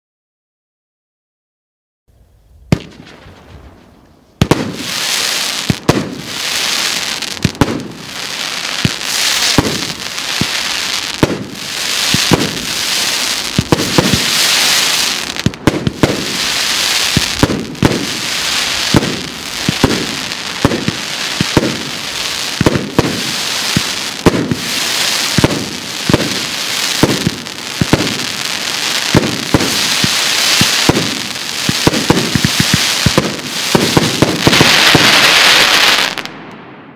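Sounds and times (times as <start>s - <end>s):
fireworks crackling: 2.7s - 36.9s
fireworks shots thumping: 2.7s - 36.9s.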